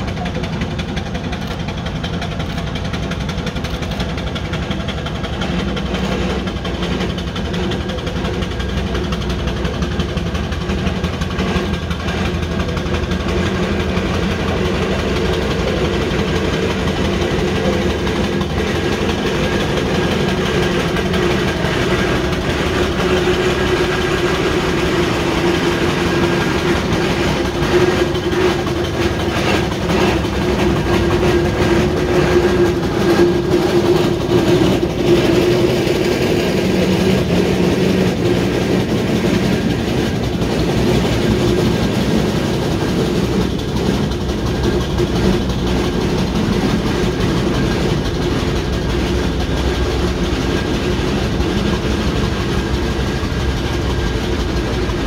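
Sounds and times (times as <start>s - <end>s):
steam roller clanking: 0.0s - 55.0s.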